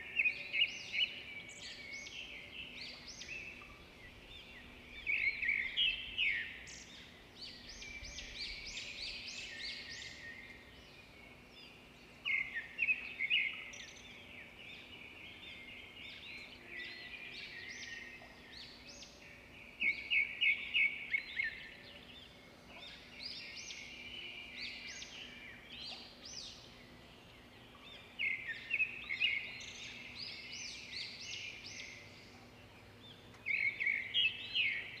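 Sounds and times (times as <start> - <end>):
birds chirping and singing: 0.0 - 35.0.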